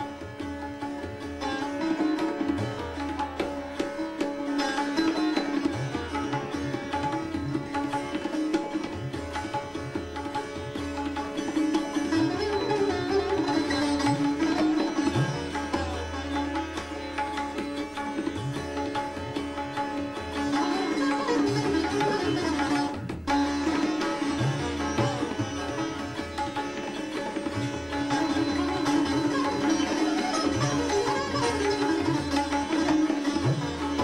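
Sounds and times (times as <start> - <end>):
sitar playing: 0.0 - 34.0.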